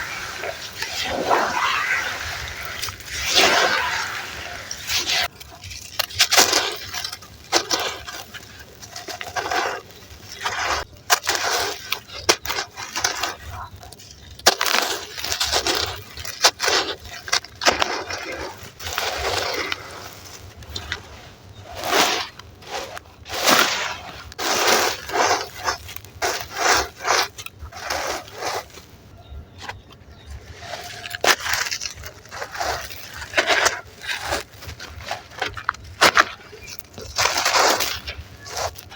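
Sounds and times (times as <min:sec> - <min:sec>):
sand and charcoal crunching: 0:00.0 - 0:38.9.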